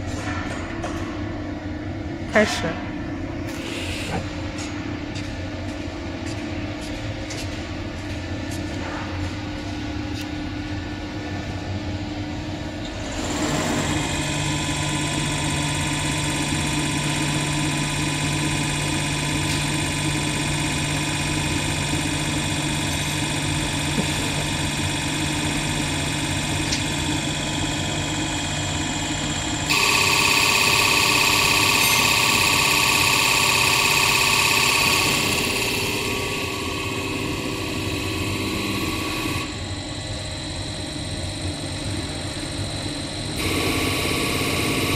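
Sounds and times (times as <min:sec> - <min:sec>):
test bench machine hum and whine: 0:00.0 - 0:44.9.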